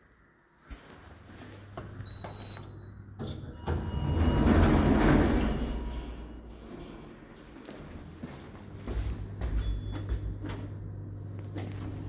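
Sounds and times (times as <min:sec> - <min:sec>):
lift door drive hum: 0:01.8 - 0:12.0.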